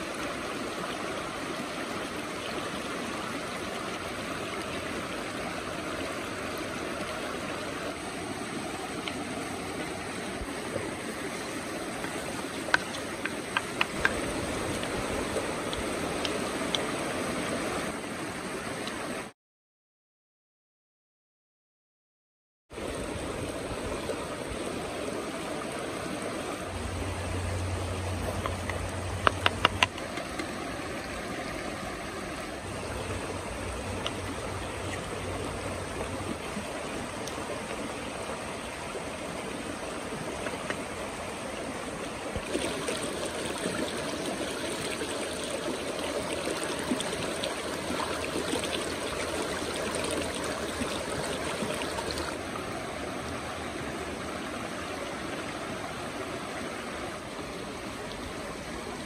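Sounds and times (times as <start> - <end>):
stream rushing over stones: 0.0 - 19.3, 22.7 - 59.0.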